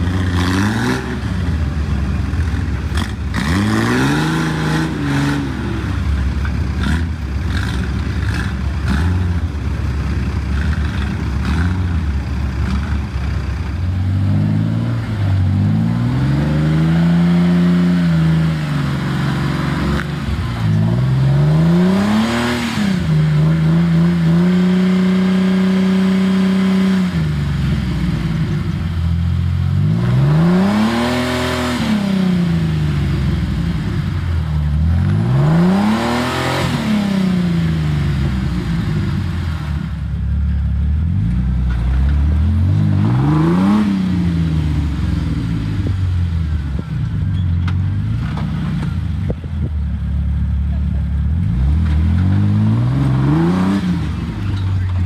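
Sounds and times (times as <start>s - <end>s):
off-road engine revving: 0.0s - 55.0s.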